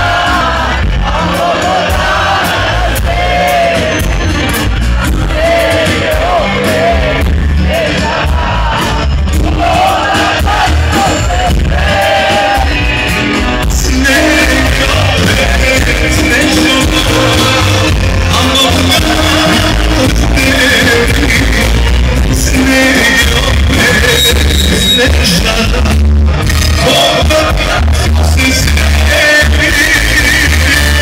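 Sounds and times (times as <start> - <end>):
drums and bass beat: 0.0 - 31.0.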